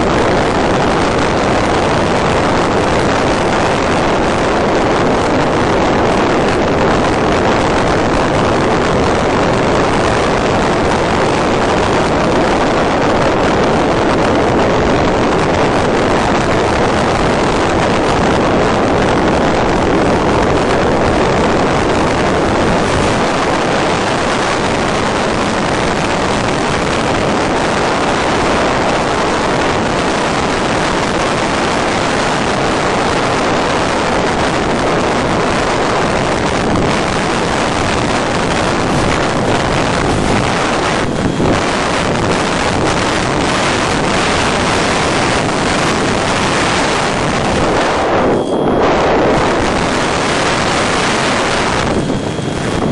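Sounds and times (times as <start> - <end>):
steady rushing noise: 0.0 - 52.9.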